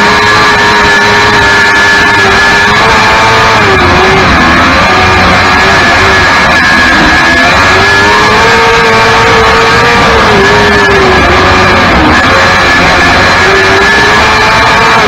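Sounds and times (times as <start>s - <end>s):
racing car engine: 0.0s - 15.0s.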